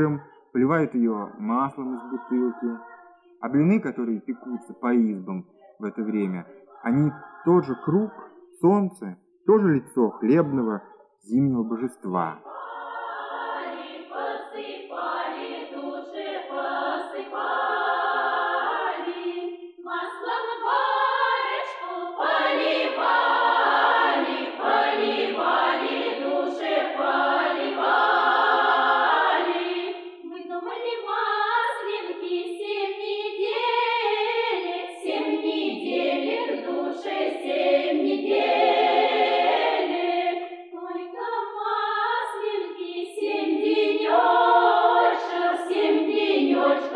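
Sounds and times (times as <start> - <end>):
folk choir singing unaccompanied: 0.0 - 46.9.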